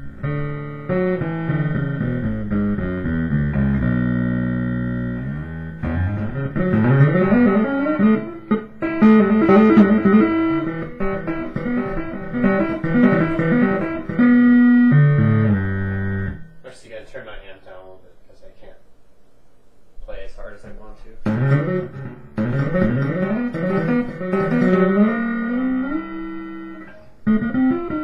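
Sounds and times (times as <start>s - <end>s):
distorted bass guitar notes: 0.0s - 16.6s, 21.2s - 28.0s.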